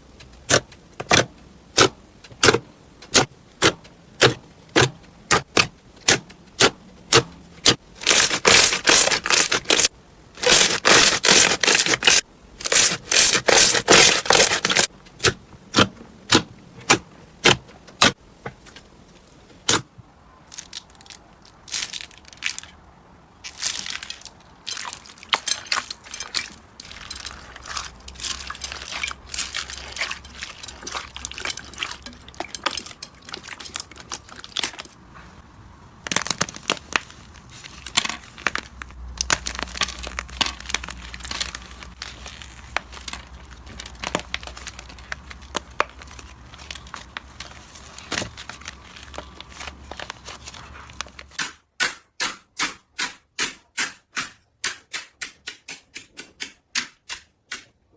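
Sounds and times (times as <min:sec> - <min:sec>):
slime squishing with crinkly clicks: 0:00.1 - 0:18.2, 0:20.4 - 0:51.4.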